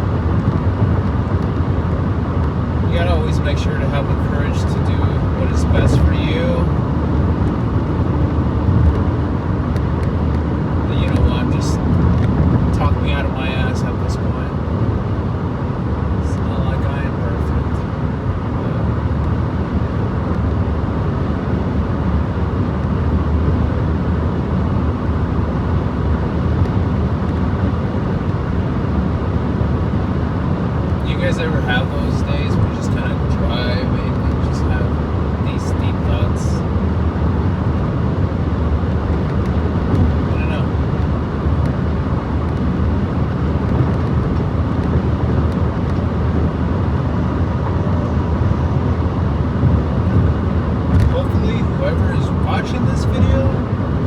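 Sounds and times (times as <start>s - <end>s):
car interior road and engine noise: 0.0s - 54.0s.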